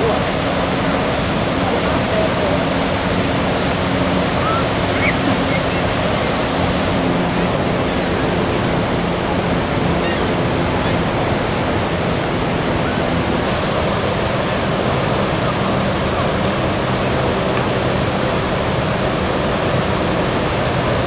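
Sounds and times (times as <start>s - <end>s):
water rushing over rapids and falls: 0.0s - 21.0s.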